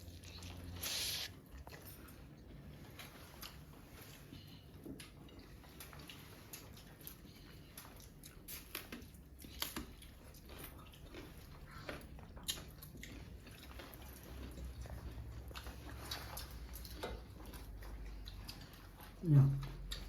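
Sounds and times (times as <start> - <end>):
person chewing: 0.0 - 20.0.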